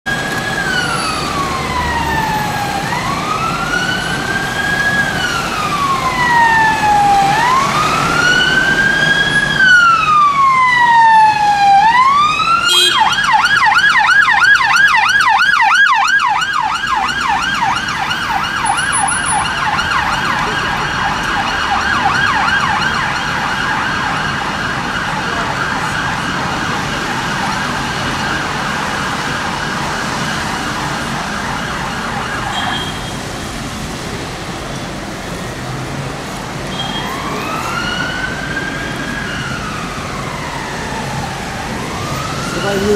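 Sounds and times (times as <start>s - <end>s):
city traffic: 0.0s - 42.9s
police siren wailing and yelping: 0.1s - 33.3s, 35.0s - 42.9s.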